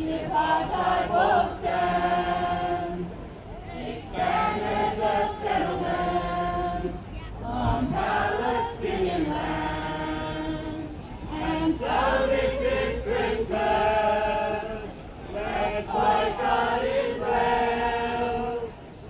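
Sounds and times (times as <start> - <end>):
group singing a carol: 0.0 - 19.0.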